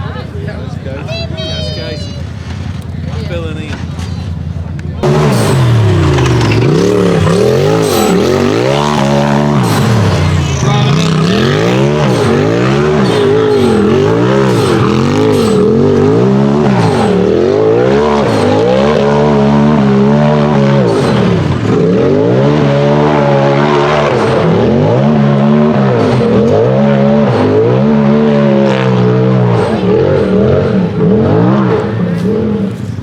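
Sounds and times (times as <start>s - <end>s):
buggy engine revving: 0.0s - 33.0s.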